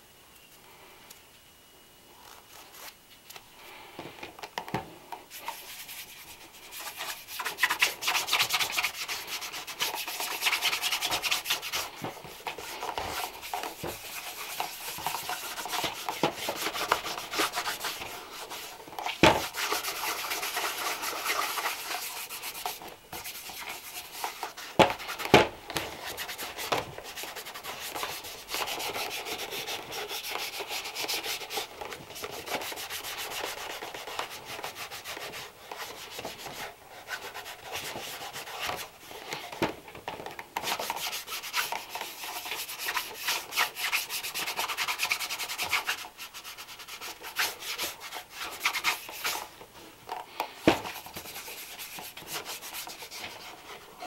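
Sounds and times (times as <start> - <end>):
brush scrubbing leather shoe: 5.3 - 25.3, 26.0 - 39.0, 40.6 - 49.5, 50.8 - 54.0.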